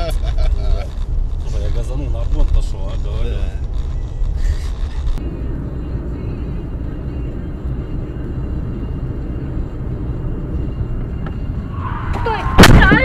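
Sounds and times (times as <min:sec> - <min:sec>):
car road and engine drone: 0:00.0 - 0:13.0.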